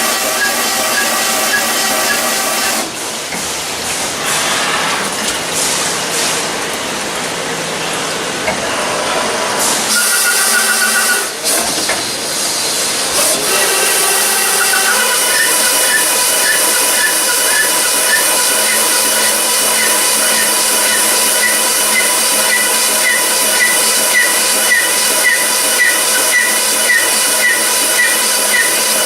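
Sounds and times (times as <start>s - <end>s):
machinery whining: 0.0s - 5.3s, 6.4s - 29.0s.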